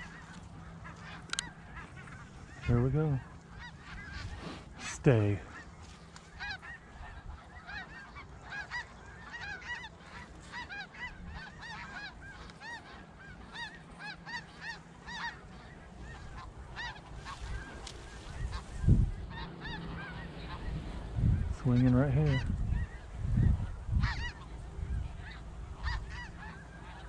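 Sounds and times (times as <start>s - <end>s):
flock of geese honking: 0.0s - 27.0s.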